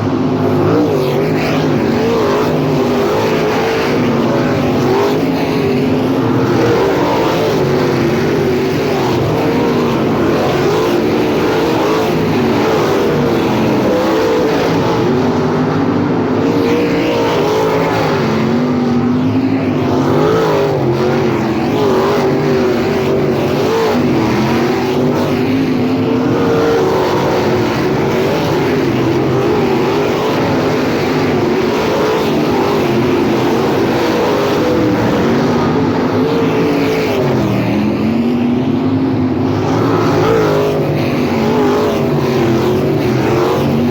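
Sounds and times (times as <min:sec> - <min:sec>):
sprint car engines racing: 0:00.0 - 0:43.9.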